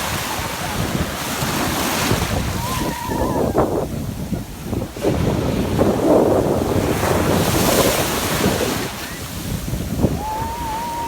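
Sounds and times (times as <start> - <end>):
surf breaking on a beach: 0.0 - 11.0
wind buffeting microphone: 0.0 - 11.0.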